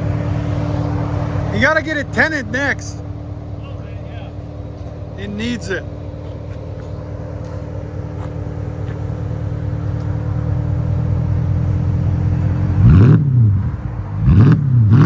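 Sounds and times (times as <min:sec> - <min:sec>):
car engine idling deeply: 0:00.0 - 0:15.0
engine throttle blip: 0:00.0 - 0:15.0.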